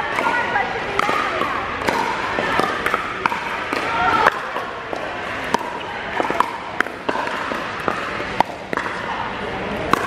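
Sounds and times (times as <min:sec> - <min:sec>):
murmur of voices: 0:00.0 - 0:10.0
paddles striking plastic ball: 0:01.0 - 0:09.0.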